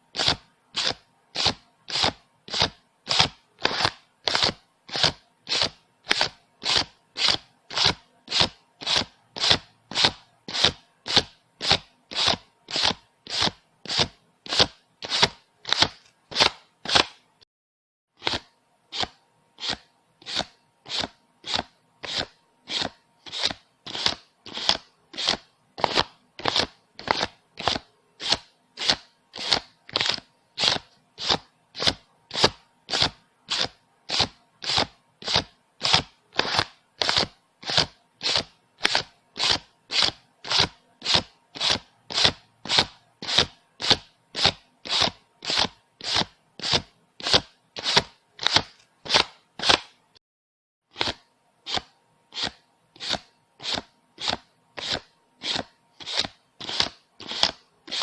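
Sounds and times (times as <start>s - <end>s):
paper banknotes flicked by hand: 0.1s - 17.2s, 18.2s - 50.0s, 50.9s - 58.0s.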